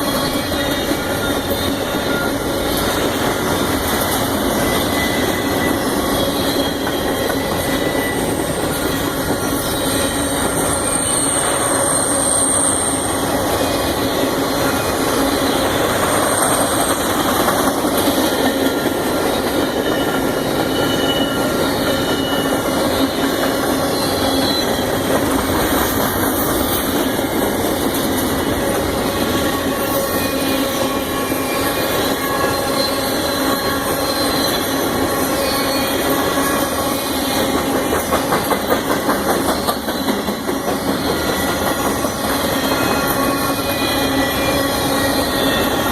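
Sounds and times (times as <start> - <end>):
high wheel squeal: 0.0 - 45.9
train wheels rumbling on rail: 0.0 - 45.9.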